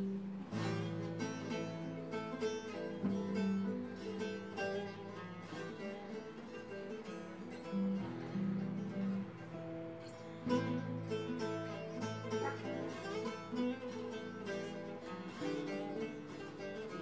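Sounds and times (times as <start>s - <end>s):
plucked long-necked lute folk tune: 0.0s - 17.0s.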